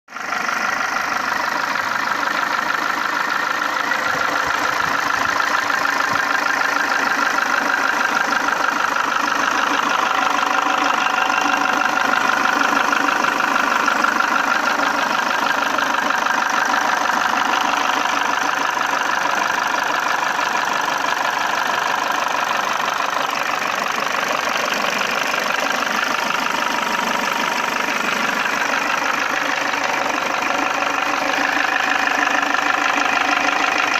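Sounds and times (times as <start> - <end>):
engine running with rapid knocking: 0.1 - 33.9.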